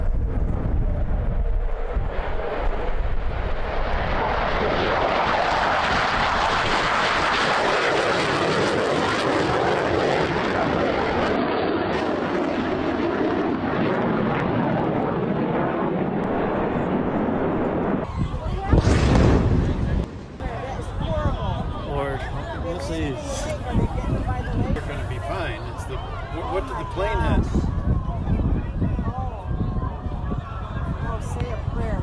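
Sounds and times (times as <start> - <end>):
jet fighter roaring overhead: 0.0 - 32.0.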